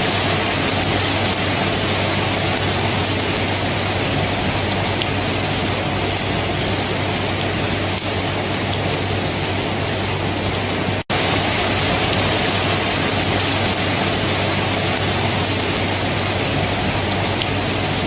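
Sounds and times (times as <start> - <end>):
dense rain falling: 0.0 - 18.0.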